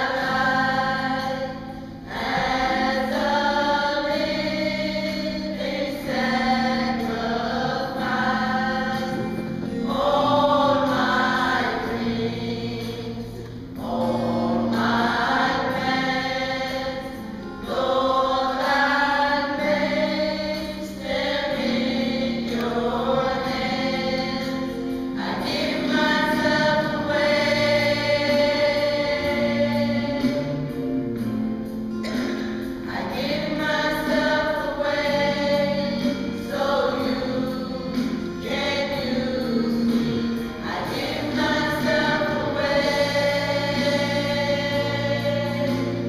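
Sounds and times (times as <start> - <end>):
women's choir singing: 0.0 - 31.3, 32.0 - 46.0.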